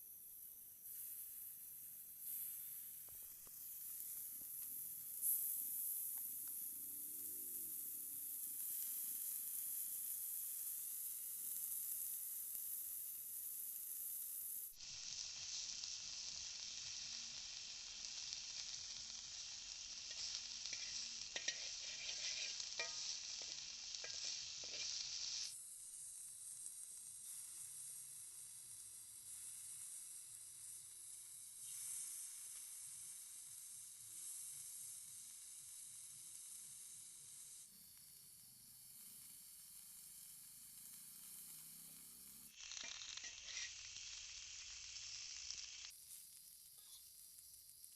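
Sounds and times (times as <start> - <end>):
food sizzling in a pan: 0.0 - 47.9.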